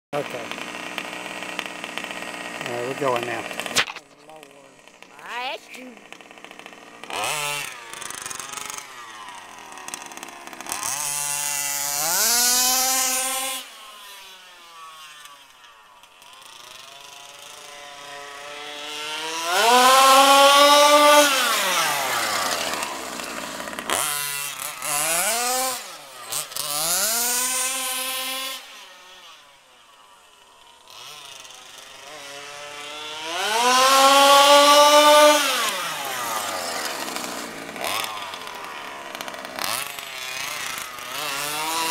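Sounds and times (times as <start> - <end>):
rc buggy engine revving: 0.2 - 41.9.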